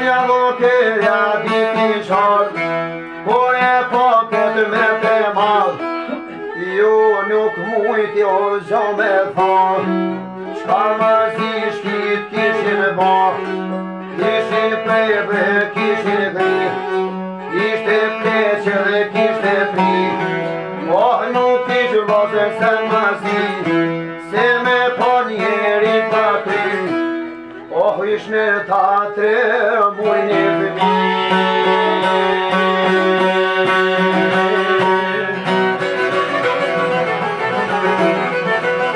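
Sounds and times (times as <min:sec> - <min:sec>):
person singing: 0:00.0 - 0:38.9
plucked lute: 0:00.0 - 0:38.9
violin: 0:00.0 - 0:38.9.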